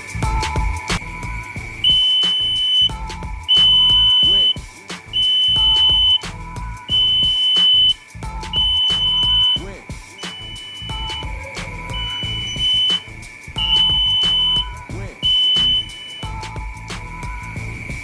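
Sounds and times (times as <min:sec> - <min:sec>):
background music with a beat: 0:00.0 - 0:18.0
smoke detector alarm beeping: 0:00.0 - 0:18.0.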